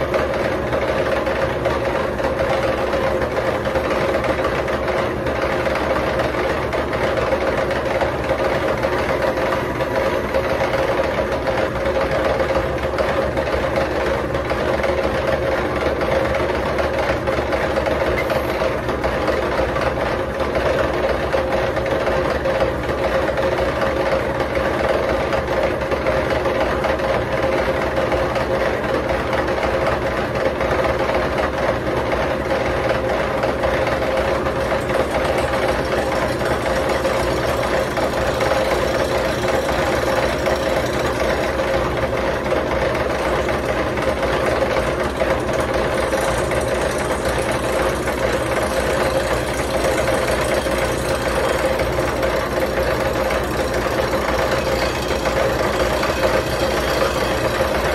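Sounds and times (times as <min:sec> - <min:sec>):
milling machine whining: 0:00.0 - 0:20.4, 0:31.3 - 0:57.9.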